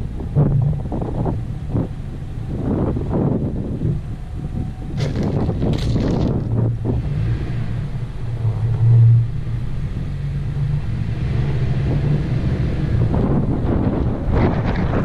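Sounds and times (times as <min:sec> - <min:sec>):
car rumble: 0:00.0 - 0:15.0
wind buffeting microphone: 0:00.0 - 0:15.0.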